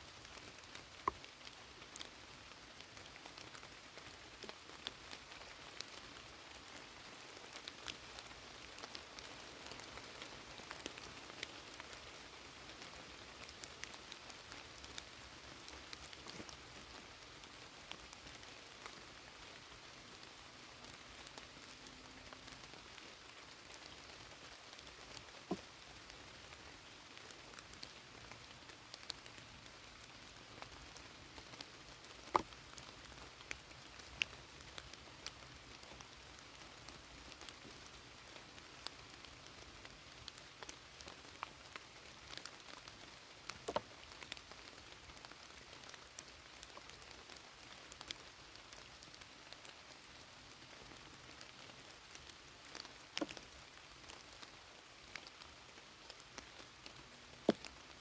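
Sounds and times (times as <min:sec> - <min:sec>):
steady rain falling: 0:00.0 - 0:58.0
raindrops ticking close by: 0:00.1 - 0:58.0.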